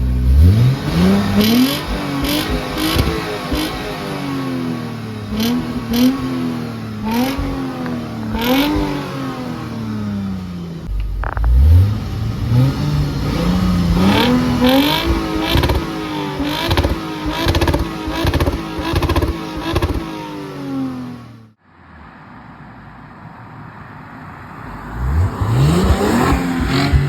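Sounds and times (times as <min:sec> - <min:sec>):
car engine revving through exhaust: 0:00.0 - 0:21.6, 0:24.7 - 0:27.0.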